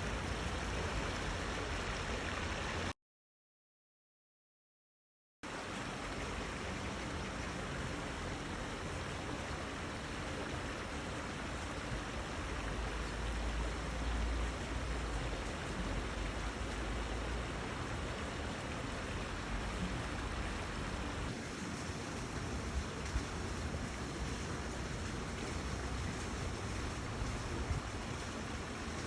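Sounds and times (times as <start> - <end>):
stream water rushing: 0.0 - 2.9, 5.4 - 29.0.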